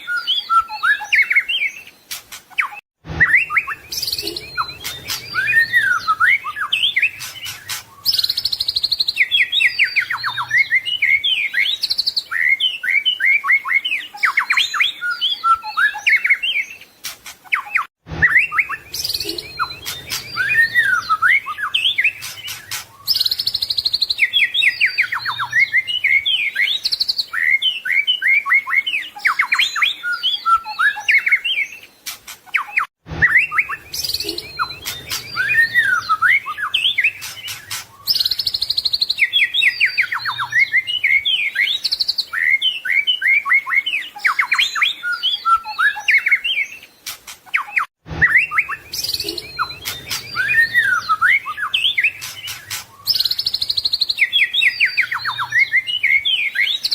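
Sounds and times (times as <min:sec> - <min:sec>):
songbird singing whistled trills: 0:00.0 - 0:56.9.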